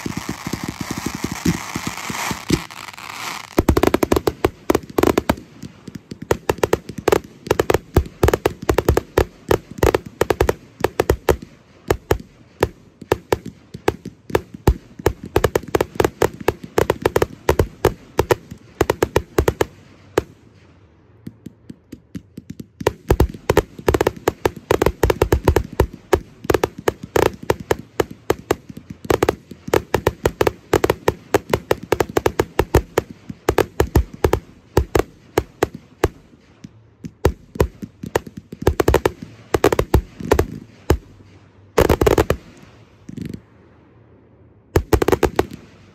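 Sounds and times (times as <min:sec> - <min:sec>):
fireworks bangs and cracks: 0:00.0 - 0:20.4, 0:21.2 - 0:43.4, 0:44.8 - 0:45.9.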